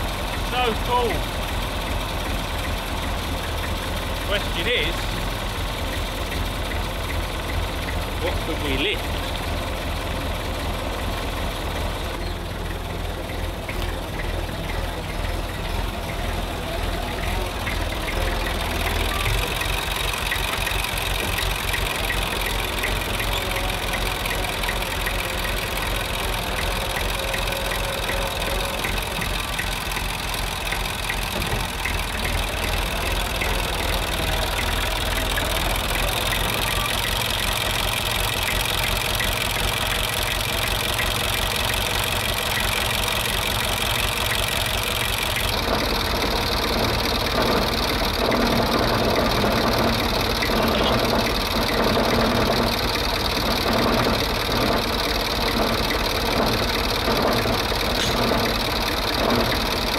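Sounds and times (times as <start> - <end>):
tractor engine knocking clatter: 0.0 - 59.9.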